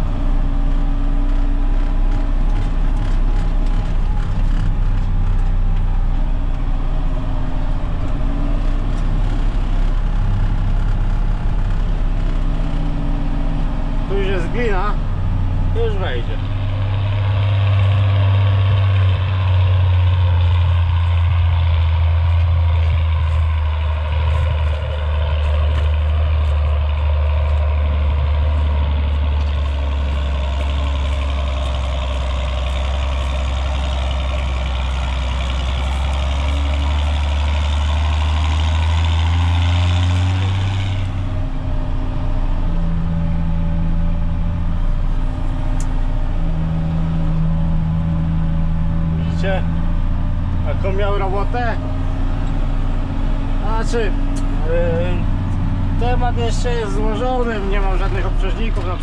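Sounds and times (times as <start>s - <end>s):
tractor engine under heavy load: 0.0s - 59.0s.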